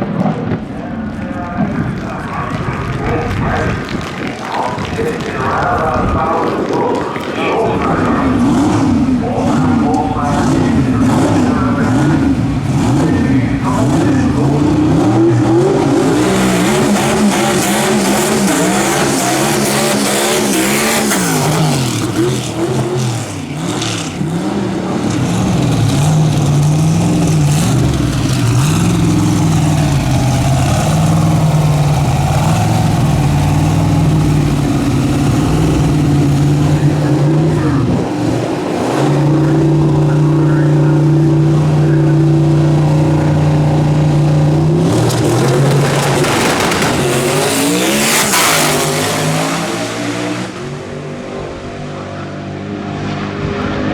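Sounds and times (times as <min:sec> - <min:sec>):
dragster engine revving: 0:00.0 - 0:53.9.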